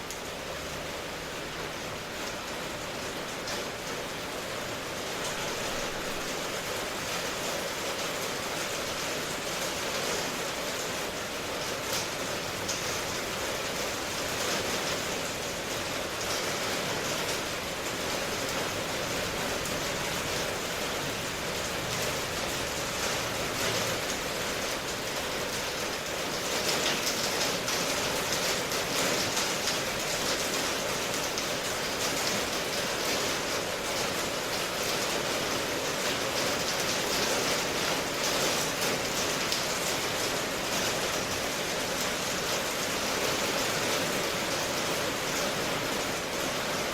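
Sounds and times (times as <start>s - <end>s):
steady rainfall: 0.0s - 46.9s.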